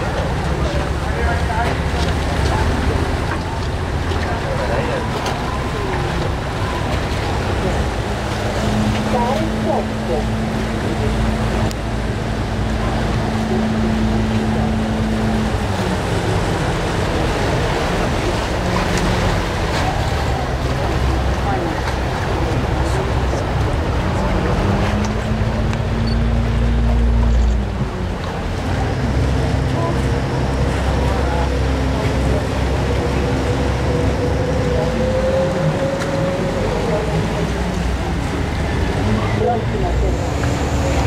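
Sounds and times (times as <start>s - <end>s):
boat engine running: 0.0s - 41.0s
water rushing along hull: 0.0s - 41.0s.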